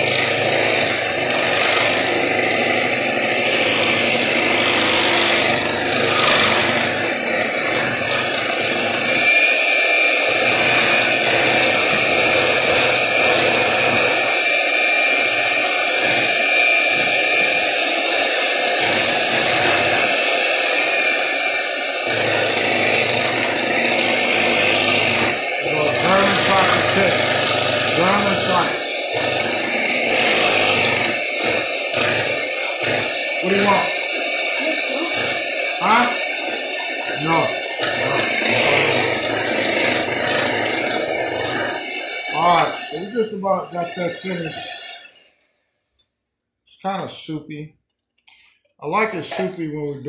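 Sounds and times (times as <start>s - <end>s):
beaters mixing batter in glass bowl: 0.0s - 45.4s
electric hand mixer running: 0.0s - 45.5s.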